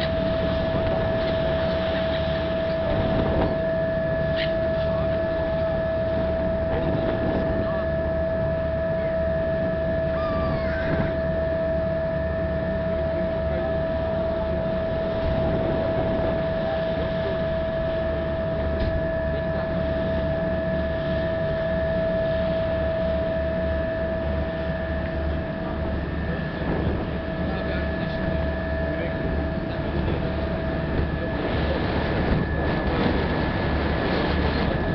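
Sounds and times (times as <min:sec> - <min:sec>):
ship engine droning: 0:00.0 - 0:34.9
water noise: 0:00.0 - 0:34.9
wind: 0:00.0 - 0:34.9.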